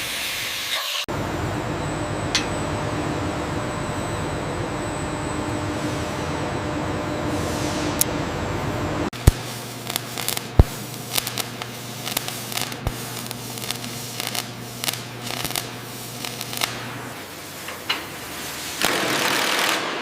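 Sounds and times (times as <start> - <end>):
steady low hum: 1.1 - 18.5.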